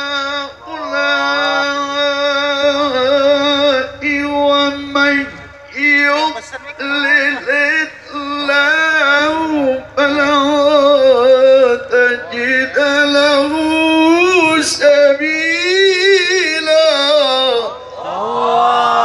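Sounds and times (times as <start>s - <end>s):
man reciting melodically over loudspeakers: 0.0s - 19.0s.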